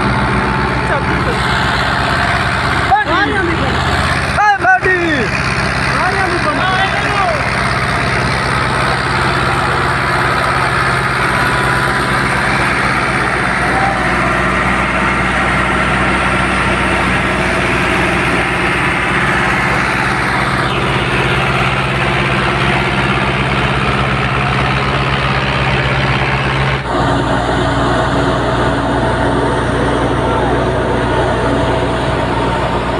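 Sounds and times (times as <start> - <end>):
thresher drum rushing: 0.0 - 32.9
tractor engine humming: 0.0 - 32.9.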